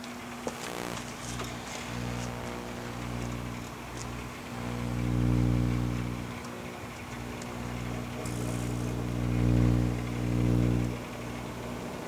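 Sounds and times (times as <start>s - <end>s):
faint crackles: 0.0s - 12.0s
microwave oven electrical hum: 0.0s - 12.0s.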